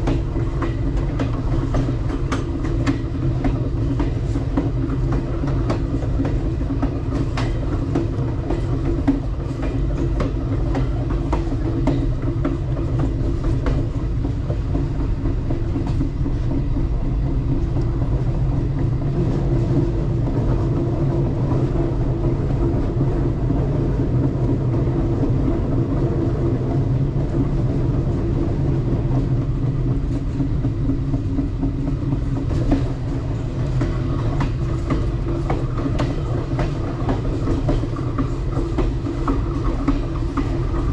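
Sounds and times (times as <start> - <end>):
train rumble and hum: 0.0 - 40.9.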